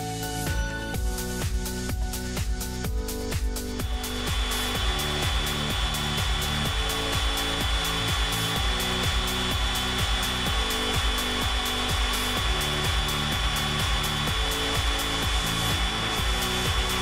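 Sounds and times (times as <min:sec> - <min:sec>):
music with pulsing beat: 0:00.0 - 0:17.0.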